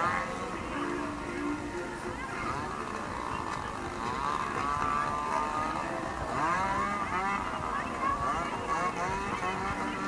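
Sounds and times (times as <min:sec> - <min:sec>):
crowd chattering: 0:00.0 - 0:10.0
vehicle engine running: 0:00.0 - 0:10.0.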